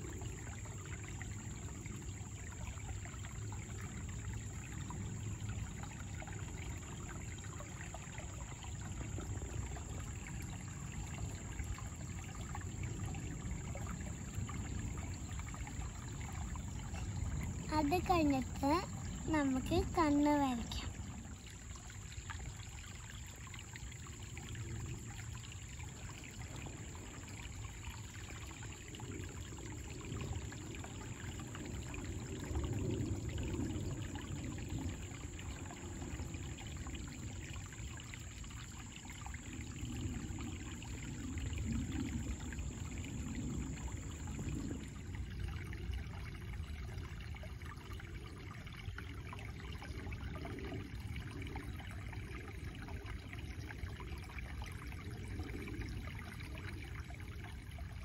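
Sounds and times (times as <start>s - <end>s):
creek water flowing over rocks: 0.0s - 58.0s.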